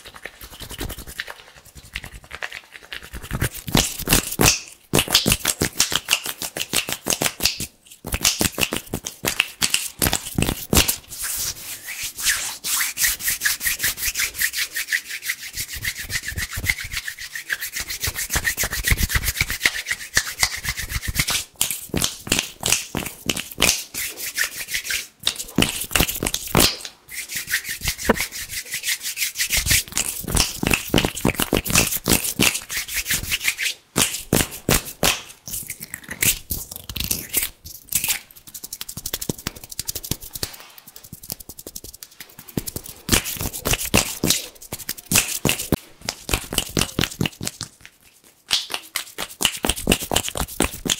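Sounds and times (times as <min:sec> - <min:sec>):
hands rubbing together: 0:00.0 - 0:50.9.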